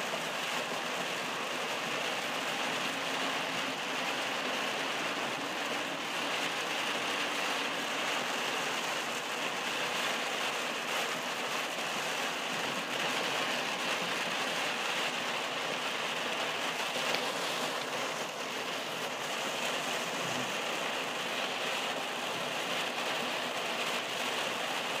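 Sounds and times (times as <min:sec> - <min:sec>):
heavy rain on car roof: 0:00.0 - 0:25.0
tyre noise on wet road: 0:00.0 - 0:25.0.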